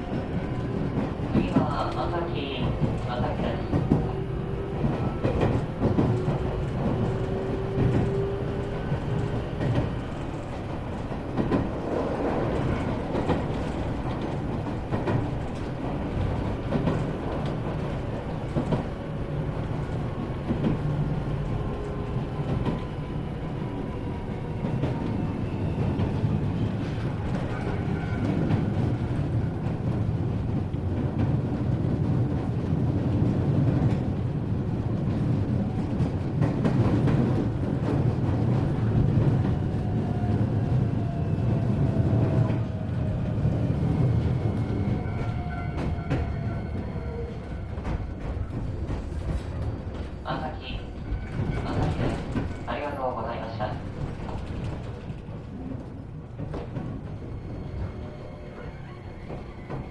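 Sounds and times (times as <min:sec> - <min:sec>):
train rolling rumble: 0:00.0 - 0:59.9.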